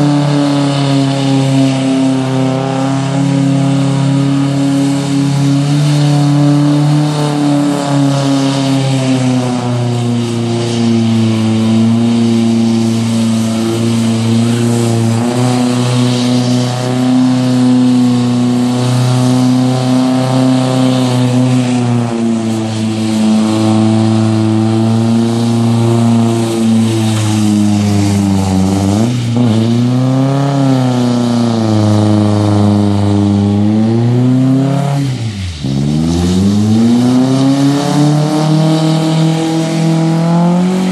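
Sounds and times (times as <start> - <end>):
truck engine at high revs: 0.0 - 40.9
wheels spinning on wet pavement: 0.0 - 40.9.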